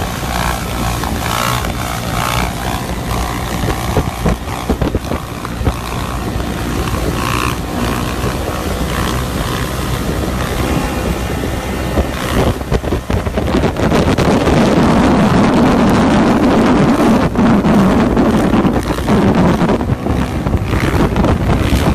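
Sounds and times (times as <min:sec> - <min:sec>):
dirt bike engine running: 0:00.0 - 0:21.9
wind rushing over microphone: 0:00.0 - 0:21.9.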